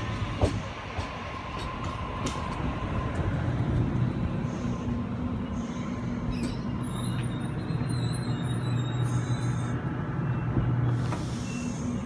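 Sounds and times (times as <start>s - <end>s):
electric train arriving: 0.0s - 12.0s.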